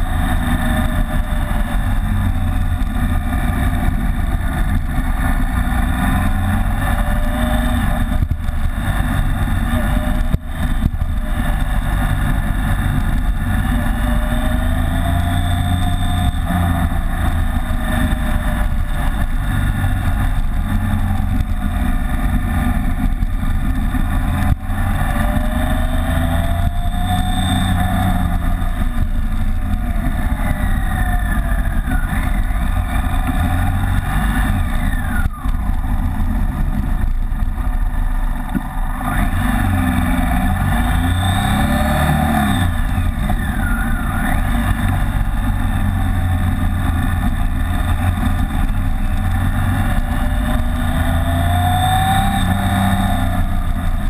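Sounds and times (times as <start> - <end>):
motorcycle engine running: 0.0 - 54.0
wind noise rumble: 0.0 - 54.0.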